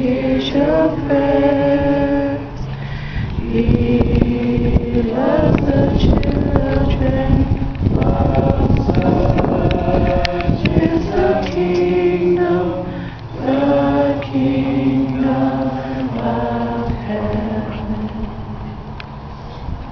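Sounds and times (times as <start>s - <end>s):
group singing unaccompanied: 0.0s - 19.3s.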